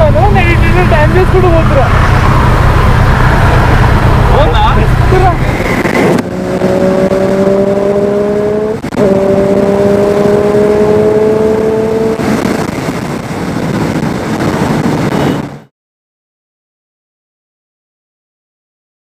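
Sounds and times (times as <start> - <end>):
motorcycle engine: 0.0 - 15.7
wind and road noise: 0.0 - 15.7.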